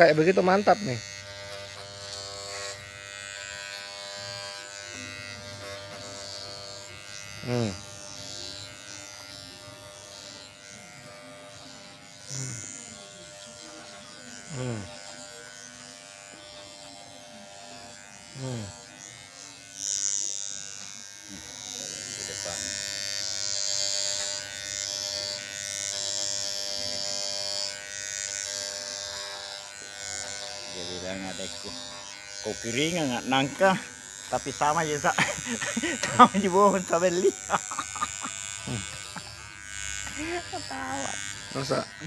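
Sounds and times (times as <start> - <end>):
electric hair clippers buzzing: 0.0 - 42.0.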